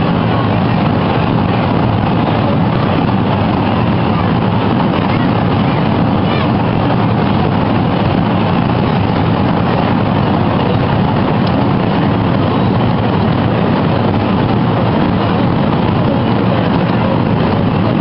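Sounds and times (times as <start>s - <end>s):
crowd hubbub: 0.0s - 18.0s.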